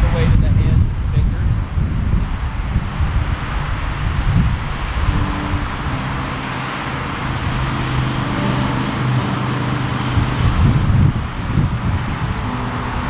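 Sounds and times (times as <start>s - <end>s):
deep rumble: 0.0s - 13.0s
traffic noise: 0.0s - 13.0s
vehicle engine running: 1.7s - 13.0s.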